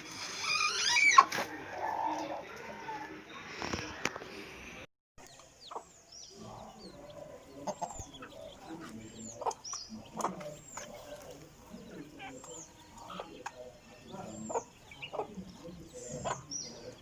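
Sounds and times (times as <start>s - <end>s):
chickens clucking: 0.0s - 4.5s, 5.2s - 17.0s.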